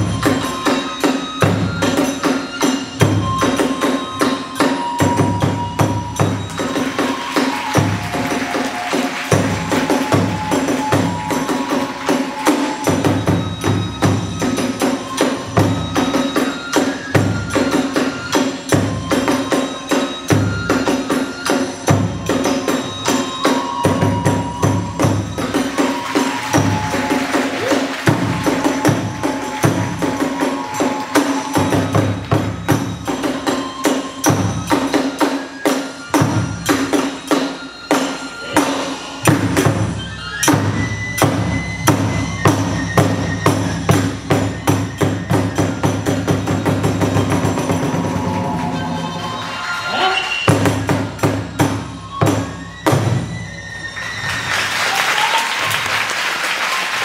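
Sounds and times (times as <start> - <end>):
drum beating fast rhythm: 0.0 - 35.5, 36.2 - 53.2
hand cymbals struck: 0.0 - 53.2.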